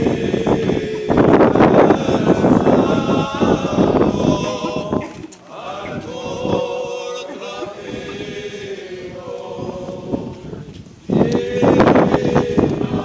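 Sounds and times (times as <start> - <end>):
loud rush of noise: 0.0 - 13.0
men chanting slow held notes: 0.0 - 13.0.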